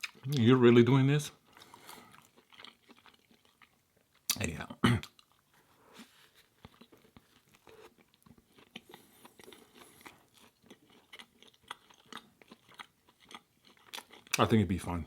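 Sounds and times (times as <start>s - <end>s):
person chewing: 0.0s - 0.4s, 1.4s - 14.4s.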